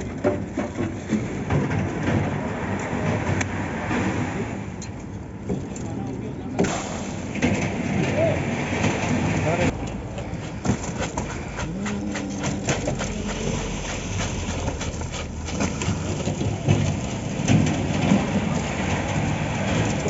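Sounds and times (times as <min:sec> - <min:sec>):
clattering and scraping knocks: 0:00.0 - 0:05.8, 0:06.6 - 0:20.0.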